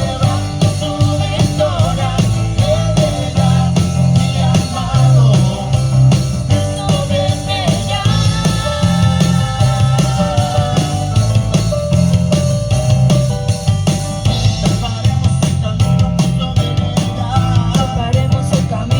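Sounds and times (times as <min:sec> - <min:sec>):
person singing: 0:00.0 - 0:12.1, 0:14.5 - 0:18.9
live band playing: 0:00.0 - 0:18.9.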